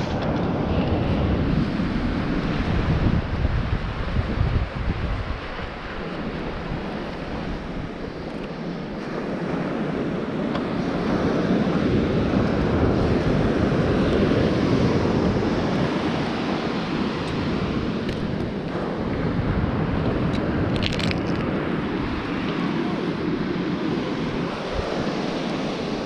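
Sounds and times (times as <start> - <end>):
surf washing onto beach: 0.0 - 26.0
wind on microphone: 0.0 - 26.0.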